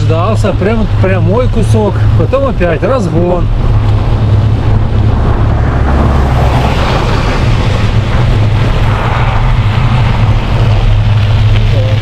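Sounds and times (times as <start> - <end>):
bicycle tyres rolling on snow: 0.0 - 12.0
wind buffeting microphone: 0.0 - 12.0.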